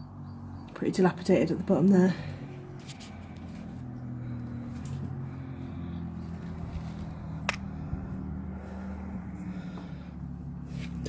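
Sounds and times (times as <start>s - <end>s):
distant engine drone: 0.0s - 11.0s.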